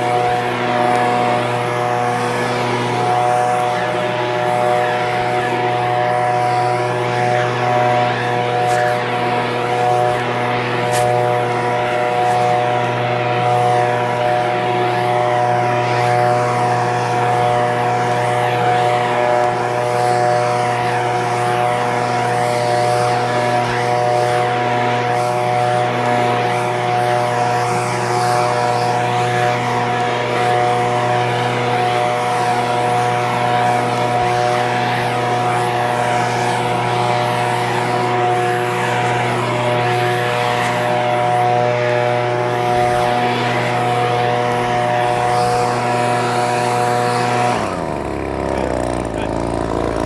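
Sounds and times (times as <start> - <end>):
leaf blower engine running: 0.0 - 50.0.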